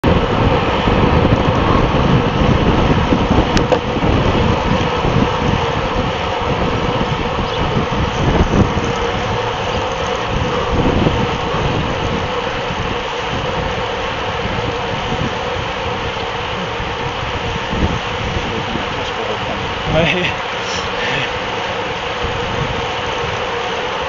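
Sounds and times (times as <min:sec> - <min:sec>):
tyre and road noise: 0:00.0 - 0:24.0
wind buffeting microphone: 0:00.0 - 0:24.0.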